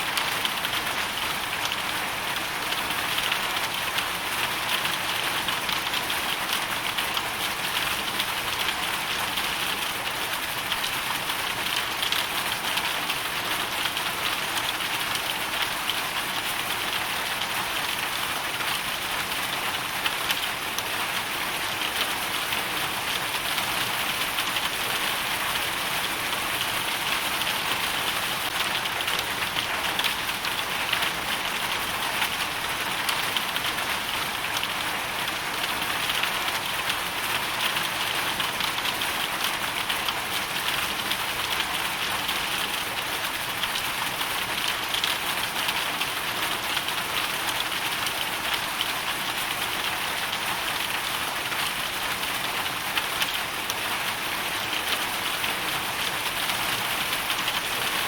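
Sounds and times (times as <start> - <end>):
hail pattering on a surface: 0.1 - 58.0.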